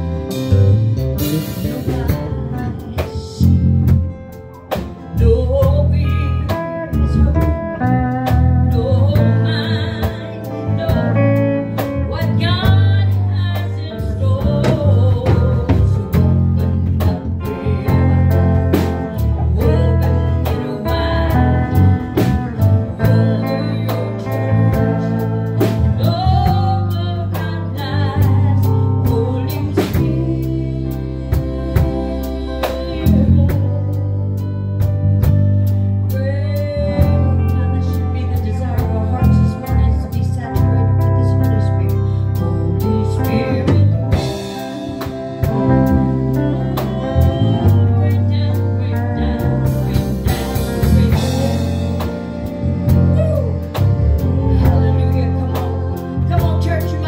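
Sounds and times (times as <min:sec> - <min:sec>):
electric guitar blues lead: 0:00.0 - 0:57.0
steady bass: 0:00.0 - 0:57.0.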